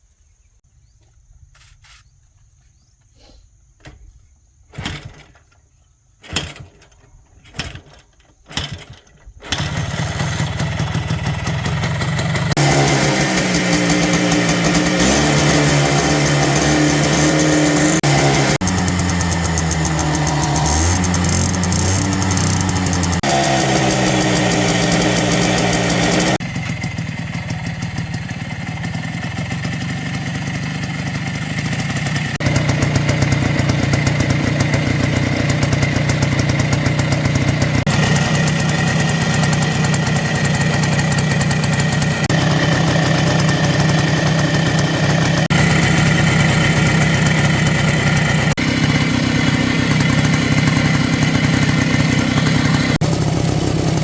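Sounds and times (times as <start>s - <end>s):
motorcycle engine idling: 9.5s - 54.0s.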